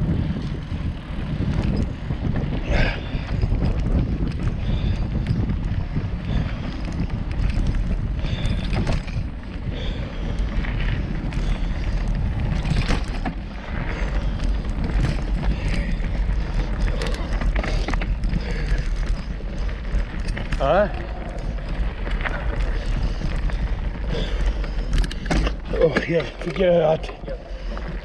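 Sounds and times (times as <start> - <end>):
bike clicks and rattles: 0.0 - 28.0
bike tyres on dirt: 0.0 - 28.0
wind rumble on microphone: 0.0 - 28.0.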